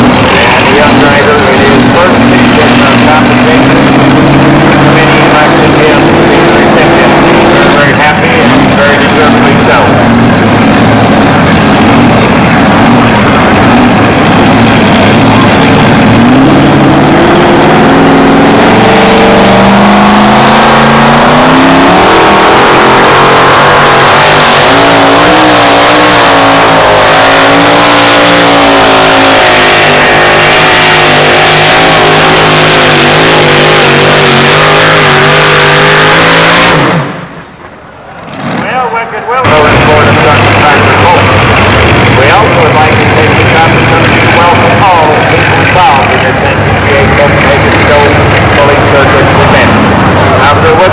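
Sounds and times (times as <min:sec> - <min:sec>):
racing truck engine at full throttle: 0:00.0 - 0:50.9.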